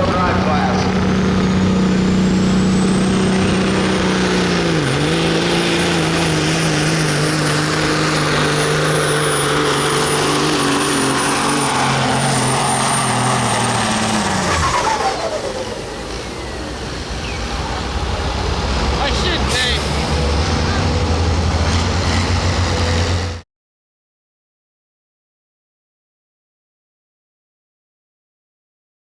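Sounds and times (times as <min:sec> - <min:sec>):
diesel truck engine at full throttle: 0:00.0 - 0:23.4.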